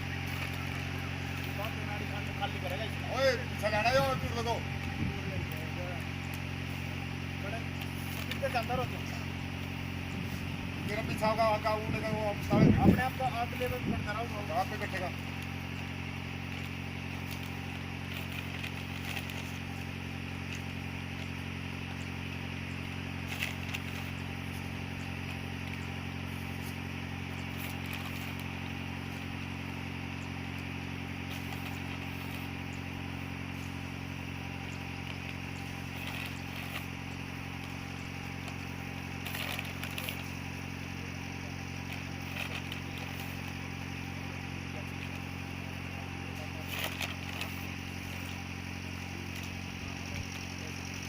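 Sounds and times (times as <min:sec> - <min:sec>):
diesel engine droning: 0:00.0 - 0:51.0.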